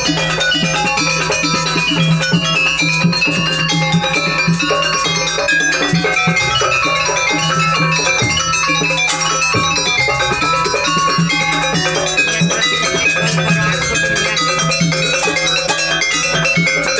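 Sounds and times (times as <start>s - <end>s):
drums: 0.0s - 16.9s
gamelan metal percussion: 0.0s - 16.9s.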